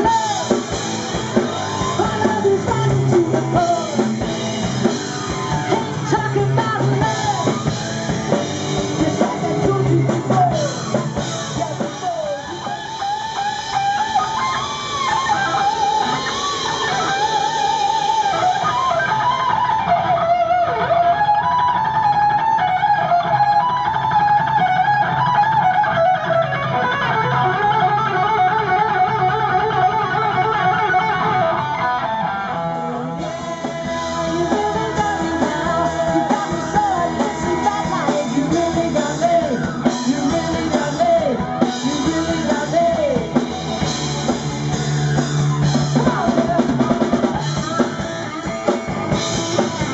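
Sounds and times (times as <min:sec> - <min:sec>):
electric guitar bent notes: 0:00.0 - 0:49.9
live rock band playing: 0:00.0 - 0:49.9.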